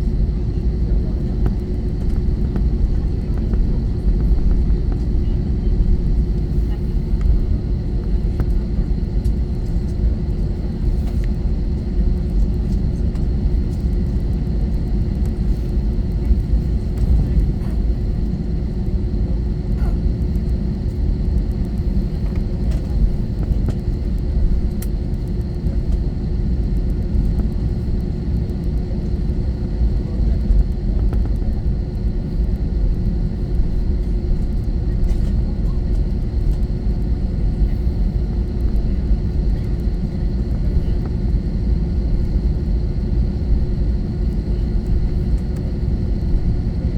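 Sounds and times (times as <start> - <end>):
airplane cabin rumble: 0.0 - 46.9.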